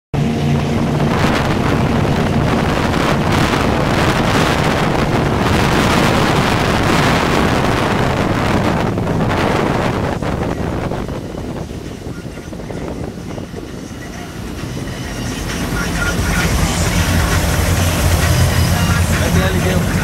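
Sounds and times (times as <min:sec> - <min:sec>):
powerboat engines humming: 0:00.2 - 0:20.0
wind buffeting microphone: 0:00.2 - 0:20.0
rushing spray: 0:00.9 - 0:20.0.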